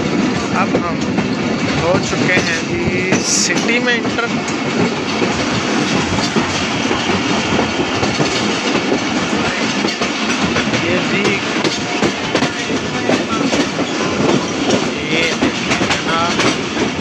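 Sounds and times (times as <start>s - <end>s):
train wheels clattering over rails: 0.0s - 17.0s.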